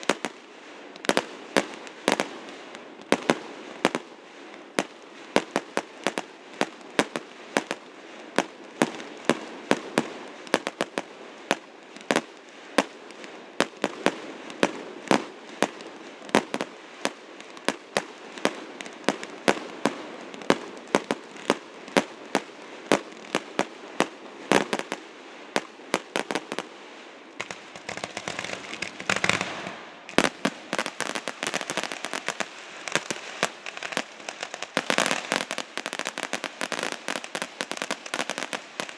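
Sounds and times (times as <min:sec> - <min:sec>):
firework crackling: 0:00.0 - 0:38.9.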